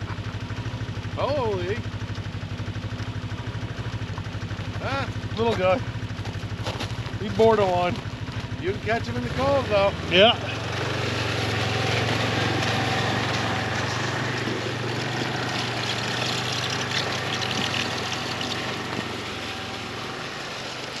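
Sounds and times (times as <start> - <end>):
snowmobile engine idling: 0.0 - 21.0.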